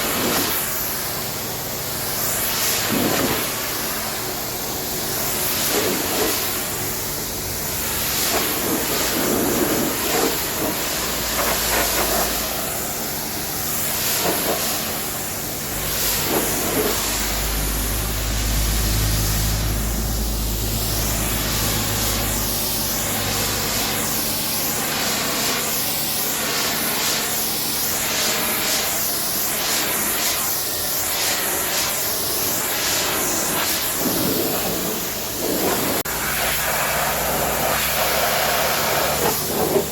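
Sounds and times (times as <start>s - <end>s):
pressure washer spraying water: 0.0s - 39.9s.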